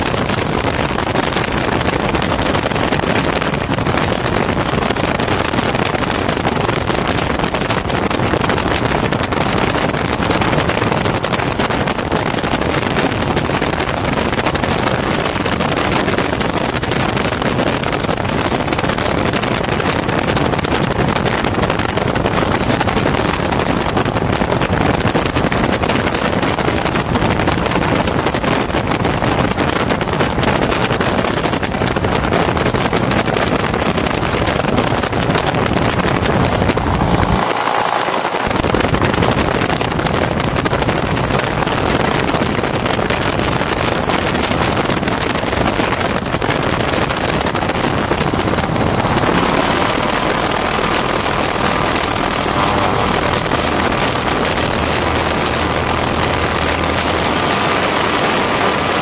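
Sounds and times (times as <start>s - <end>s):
small aircraft engine running: 0.0s - 59.0s
wind on microphone: 0.0s - 59.0s.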